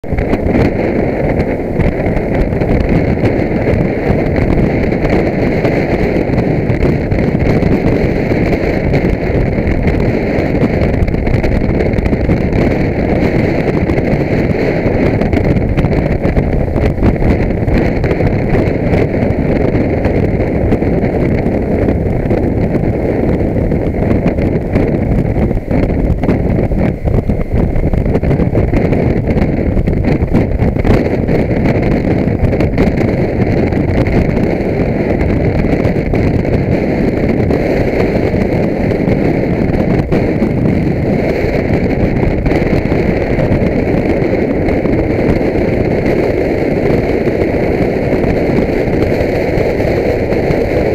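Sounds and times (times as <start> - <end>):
wind rush on microphone: 0.0 - 50.9.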